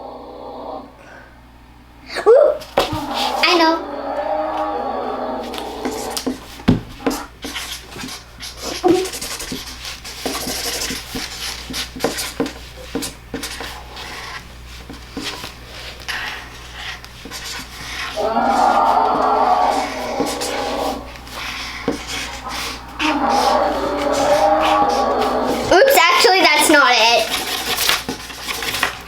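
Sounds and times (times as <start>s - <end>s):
pens scratching on paper: 5.4s - 29.0s.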